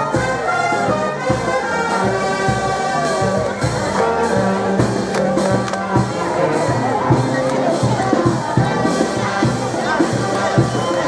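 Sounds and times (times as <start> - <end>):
brass band horns playing melody: 0.0 - 11.0
steady drum beat: 0.0 - 11.0.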